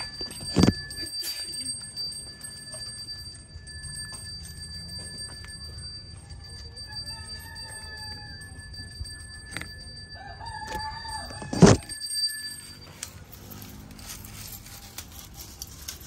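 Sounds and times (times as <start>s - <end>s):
hand bell ringing: 0.0s - 16.0s.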